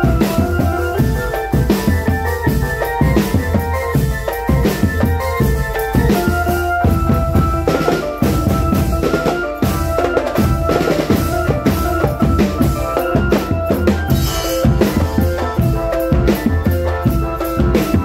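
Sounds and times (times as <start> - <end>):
bass and snare drum strokes: 0.0 - 18.0
held melody line: 0.0 - 18.0.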